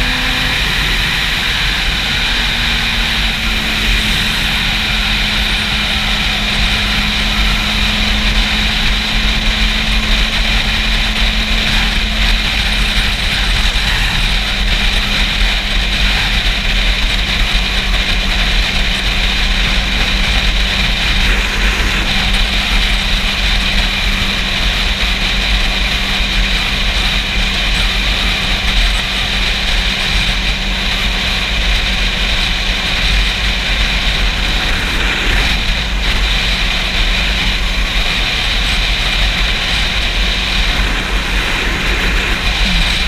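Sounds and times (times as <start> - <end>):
motorcycle engine droning: 0.0 - 43.0
wind buffeting microphone: 0.0 - 43.0.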